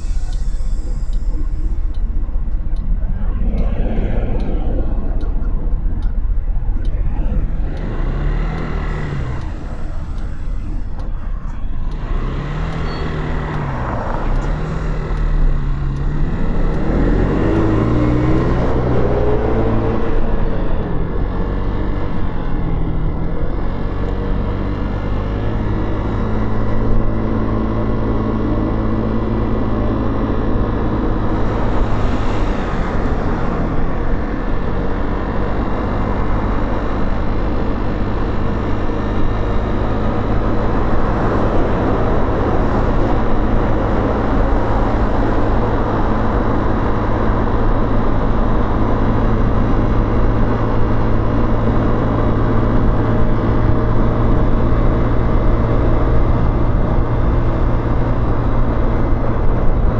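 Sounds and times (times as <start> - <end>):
motorcycle engine revving: 0.0 - 59.9
road and wind noise: 0.0 - 59.9.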